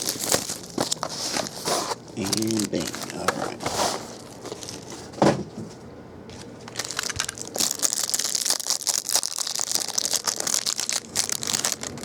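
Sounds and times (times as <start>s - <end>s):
plastic wrapping crinkling: 0.0s - 5.2s, 6.4s - 12.0s.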